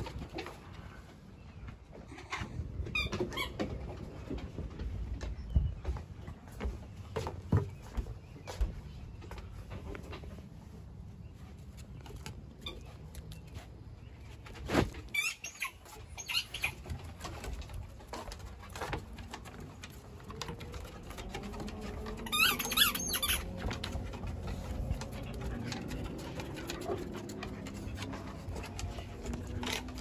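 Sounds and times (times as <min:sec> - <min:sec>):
paws tapping on wooden boards: 0:00.0 - 0:30.0.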